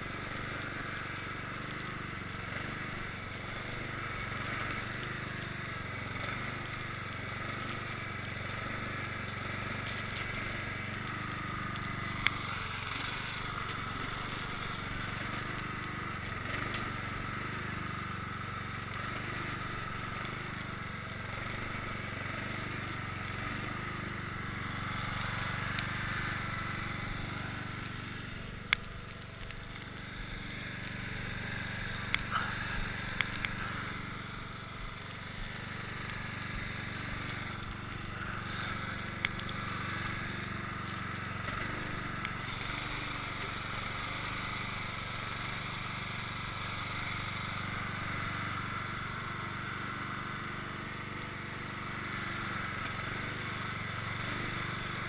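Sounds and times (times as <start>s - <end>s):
blade pushing snow: 0.0s - 55.0s
lawn tractor engine running: 0.0s - 55.0s.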